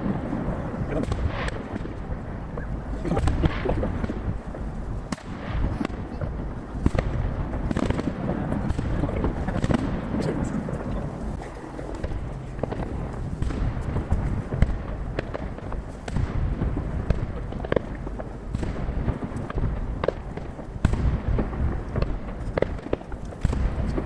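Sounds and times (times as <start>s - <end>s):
fireworks booming and cracking: 0.0s - 24.0s
rumbling echo: 0.0s - 24.0s.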